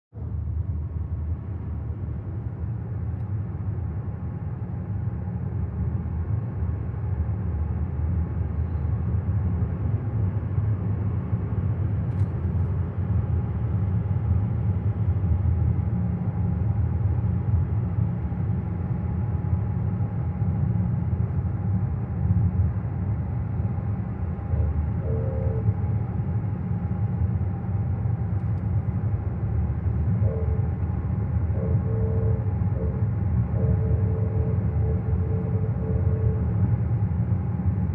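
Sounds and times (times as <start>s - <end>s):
car engine low rumble: 0.1s - 37.9s
faint steady hum: 0.2s - 37.9s.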